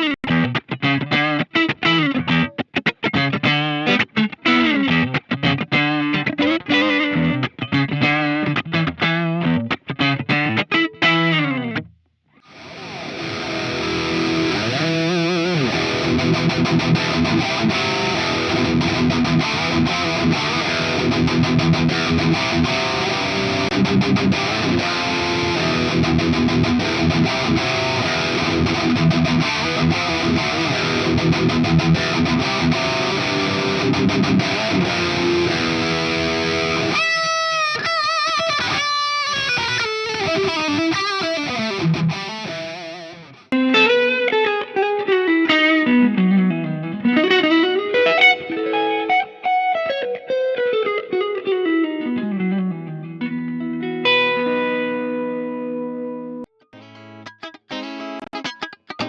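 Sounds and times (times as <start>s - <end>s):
distorted electric guitar: 0.0s - 59.0s.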